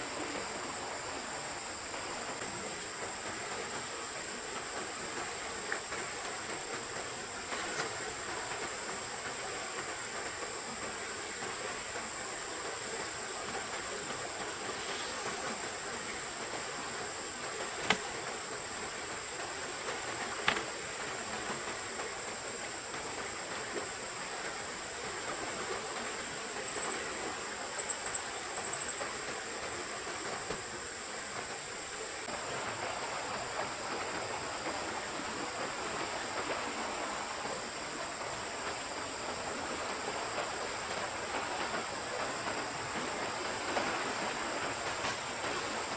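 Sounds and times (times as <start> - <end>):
forest stream rushing: 0.0 - 45.9.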